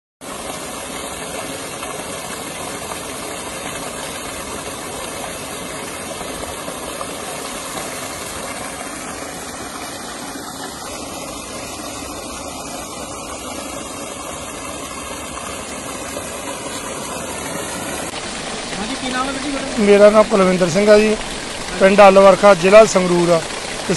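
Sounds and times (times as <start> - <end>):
water gushing into tank: 0.2 - 23.9.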